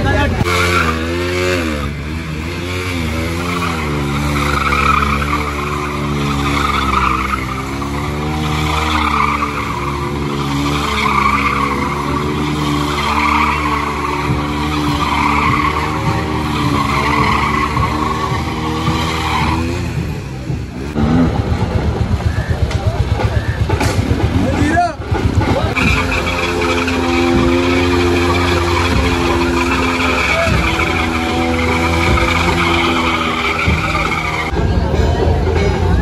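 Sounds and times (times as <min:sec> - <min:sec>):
tyre squealing on paving: 0:00.0 - 0:21.0, 0:24.4 - 0:34.6
motorcycle engine revving: 0:00.0 - 0:34.8.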